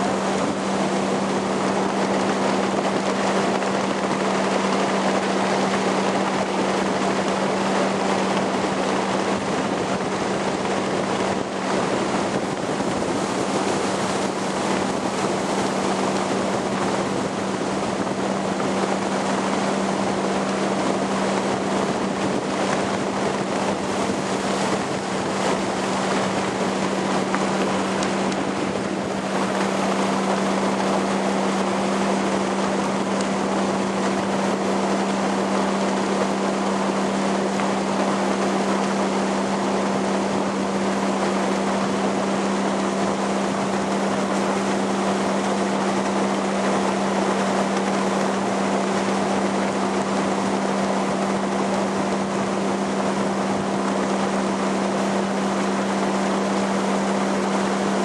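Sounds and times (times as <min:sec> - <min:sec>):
motorboat engine humming: 0:00.0 - 0:58.0
water rushing: 0:00.0 - 0:58.0
wind noise on microphone: 0:00.0 - 0:58.0.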